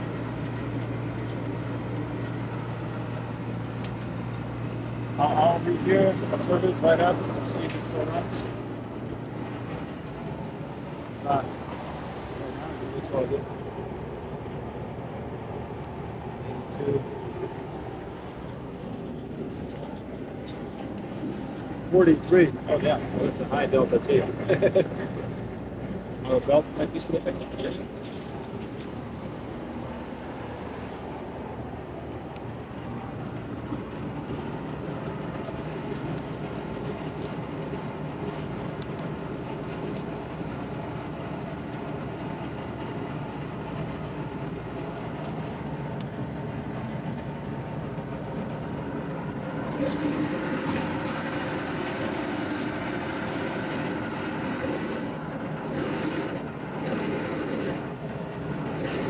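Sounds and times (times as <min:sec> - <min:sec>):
air conditioning unit humming: 0:00.0 - 0:59.0.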